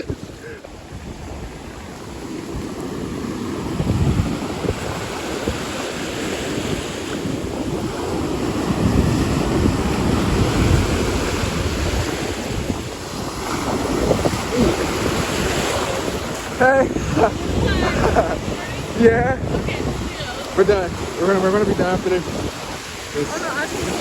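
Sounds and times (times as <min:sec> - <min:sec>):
ocean surf washing in: 0:00.0 - 0:24.0
wind buffeting microphone: 0:00.0 - 0:24.0.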